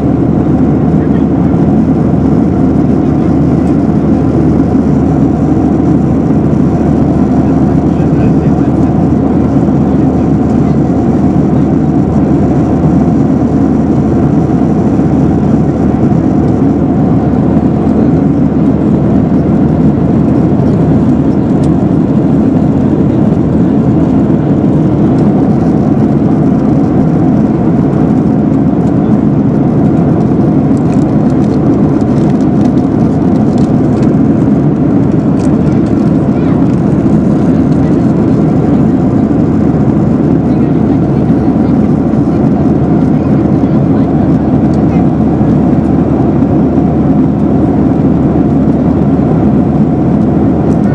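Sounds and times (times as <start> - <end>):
airliner cabin drone: 0.0 - 50.9.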